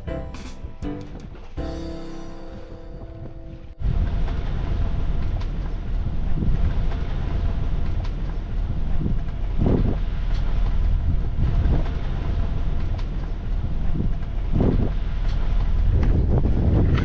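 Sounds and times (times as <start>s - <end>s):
wind buffeting microphone: 3.2s - 17.0s.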